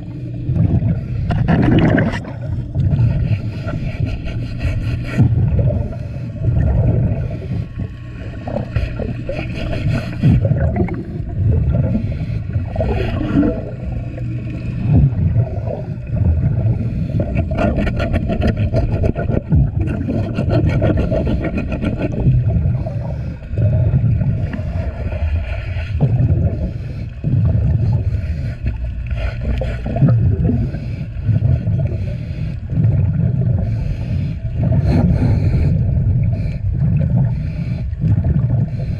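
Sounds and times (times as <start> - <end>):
diver exhaling bubbles: 0.0 - 4.1, 5.0 - 28.3, 29.3 - 32.1, 34.5 - 37.4, 38.0 - 38.9
underwater scrubbing of hull: 0.0 - 38.9.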